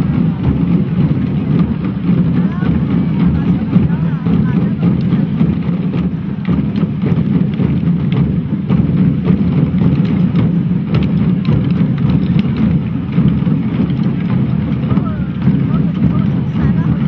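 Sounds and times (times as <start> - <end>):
barrel drums beaten together: 0.0 - 17.0.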